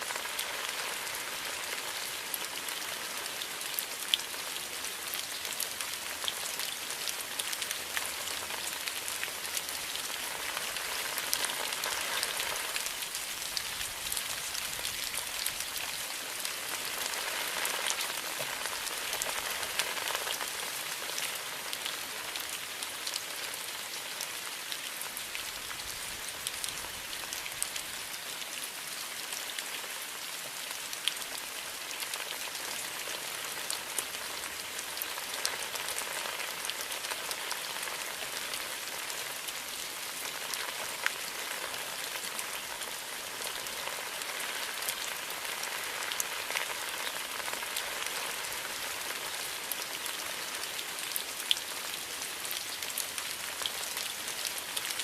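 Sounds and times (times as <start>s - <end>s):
rain falling through bamboo: 0.0s - 55.0s.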